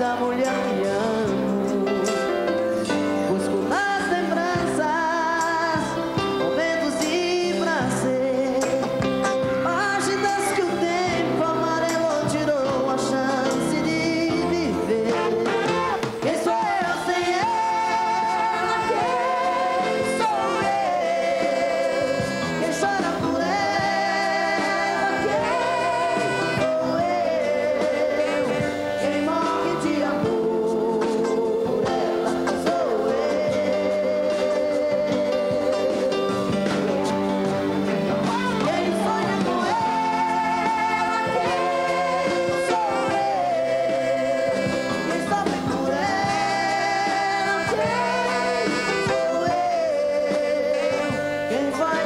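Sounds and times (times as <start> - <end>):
band accompaniment: 0.0 - 52.0
duo singing a ballad: 0.0 - 52.0.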